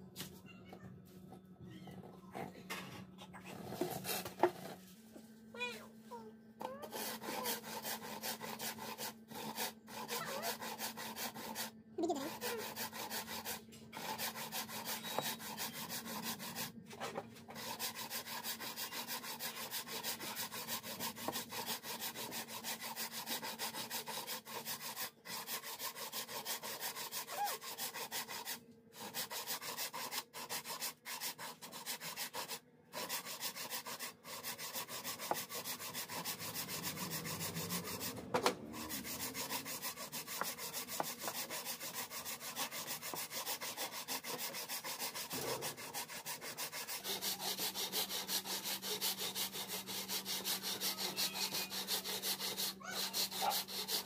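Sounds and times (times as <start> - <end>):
frame saw rasping through wood: 6.6 - 54.0.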